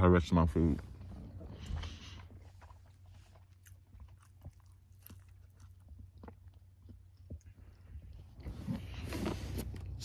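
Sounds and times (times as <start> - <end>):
low steady rumble: 0.0 - 10.0
person chewing food: 1.3 - 10.0.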